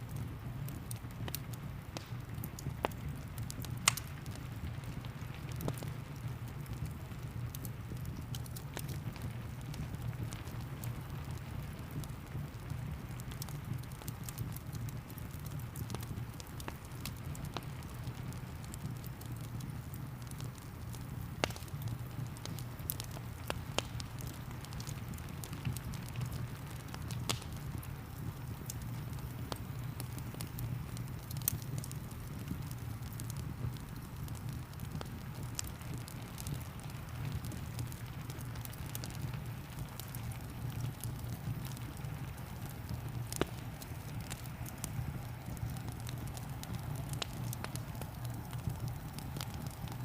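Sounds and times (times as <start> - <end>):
wood fire crackling and popping: 0.0 - 50.0
steady rain: 0.1 - 50.0.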